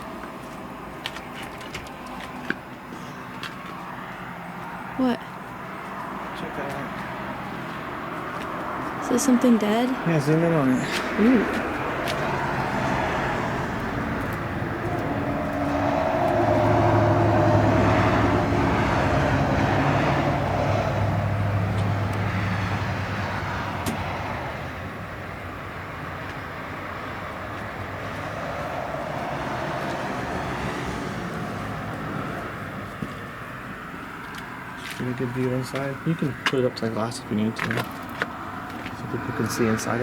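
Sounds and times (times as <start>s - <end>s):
vehicle engine passing by: 3.9s - 40.0s.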